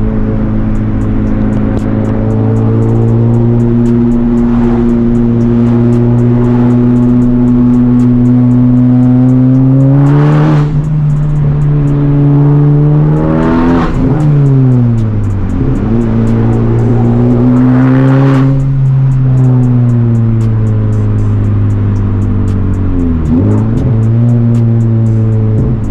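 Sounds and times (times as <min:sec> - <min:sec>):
car engine pulling hard: 0:00.0 - 0:25.9
rush of noise at gear shifts: 0:00.0 - 0:25.9.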